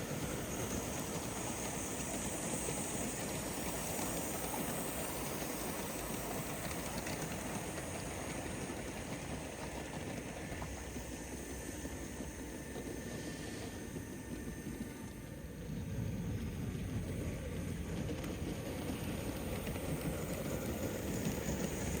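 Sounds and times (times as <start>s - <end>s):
model steam locomotive running: 0.0s - 22.0s.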